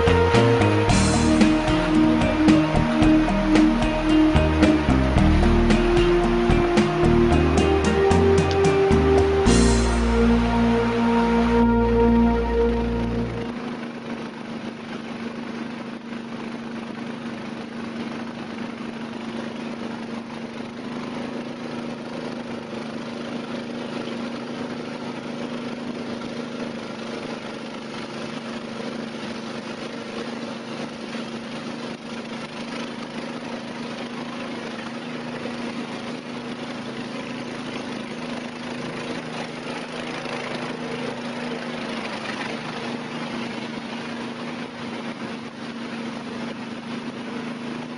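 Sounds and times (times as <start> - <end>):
motorboat engine droning: 0.0 - 47.9.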